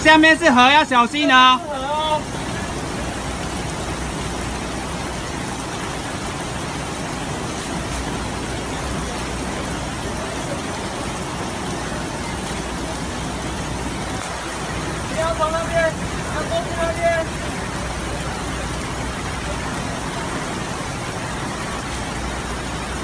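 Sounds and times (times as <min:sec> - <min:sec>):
floodwater rushing: 0:00.0 - 0:23.0
torrential rain: 0:00.0 - 0:23.0.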